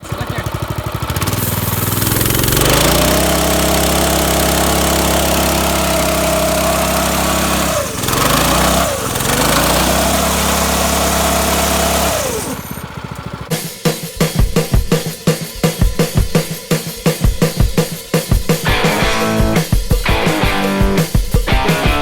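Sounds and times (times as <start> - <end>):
small engine idling and revving: 0.0 - 21.3.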